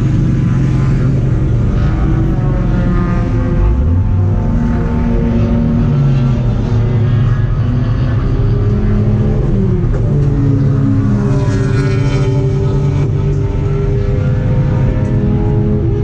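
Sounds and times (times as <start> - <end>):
race car engine running: 0.0 - 16.0.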